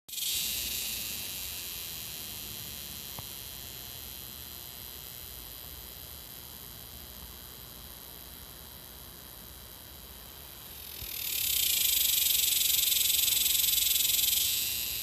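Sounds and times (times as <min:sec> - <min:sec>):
cicada buzzing: 0:00.1 - 0:15.0.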